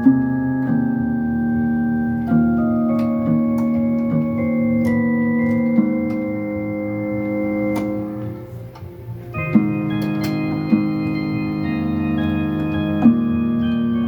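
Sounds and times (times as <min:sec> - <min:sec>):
electronic keyboard organ chords: 0:00.0 - 0:14.0.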